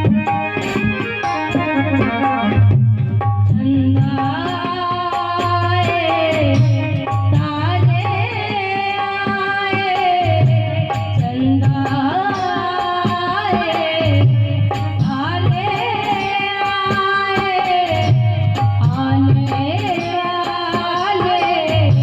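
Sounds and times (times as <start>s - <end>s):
hand drum rhythm: 0.0s - 22.0s.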